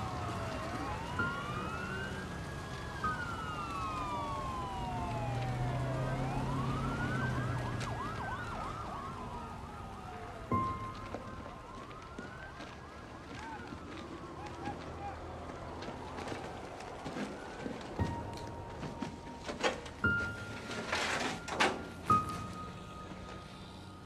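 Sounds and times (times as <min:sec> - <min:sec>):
emergency vehicle sirens wailing: 0:00.0 - 0:24.0.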